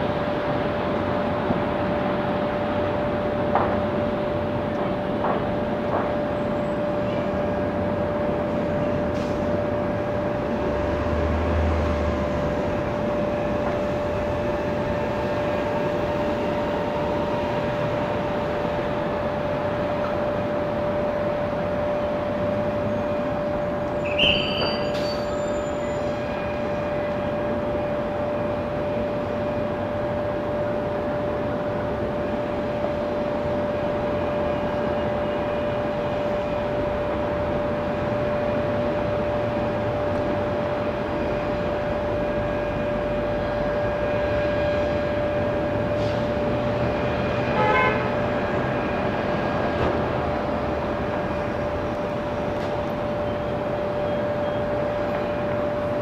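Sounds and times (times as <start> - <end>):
distant jet aircraft taxiing: 0.0 - 56.0.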